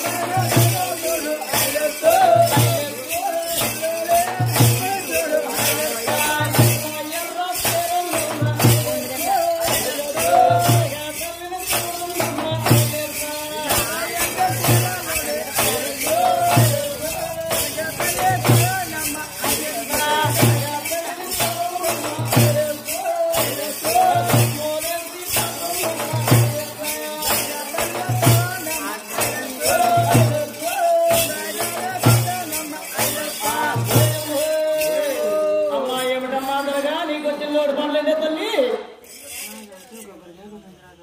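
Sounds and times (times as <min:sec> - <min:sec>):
frame drums with jingles: 0:00.0 - 0:37.4, 0:39.0 - 0:40.2.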